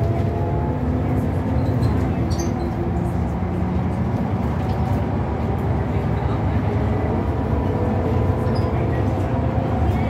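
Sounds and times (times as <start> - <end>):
bus diesel engine running: 0.0 - 10.0
road noise: 0.0 - 10.0.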